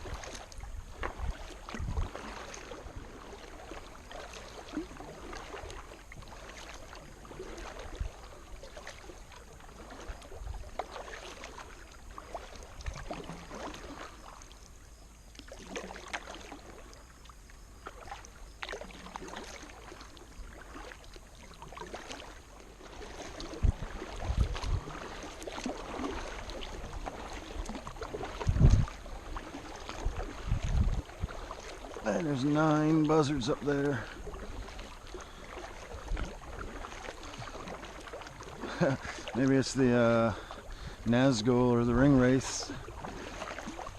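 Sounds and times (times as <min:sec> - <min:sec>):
paddle splashing in water: 0:00.0 - 0:43.9.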